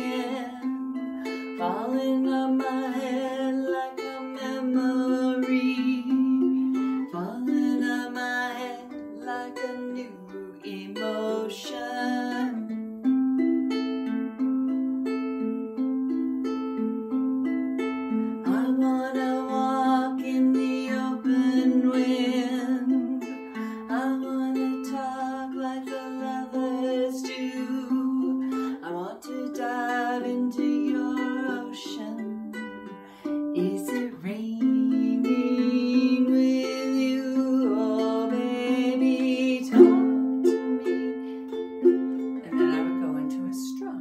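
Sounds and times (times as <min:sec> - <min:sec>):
ukulele fingerpicked arpeggio: 0:00.0 - 0:44.0.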